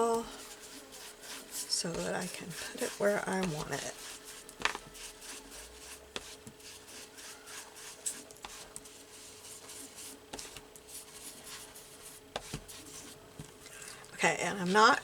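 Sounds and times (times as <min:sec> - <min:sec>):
scratchy strokes on paper: 0:00.0 - 0:13.2.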